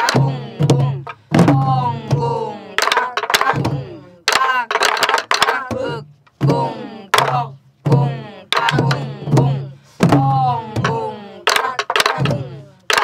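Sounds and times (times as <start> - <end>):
voice chanting: 0.0 - 4.8, 5.5 - 12.9.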